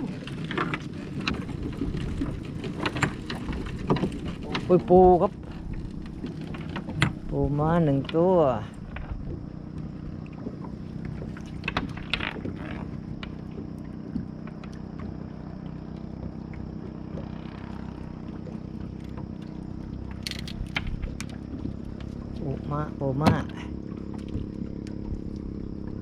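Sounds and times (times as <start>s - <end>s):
boat engine running at low revs: 0.0s - 26.0s.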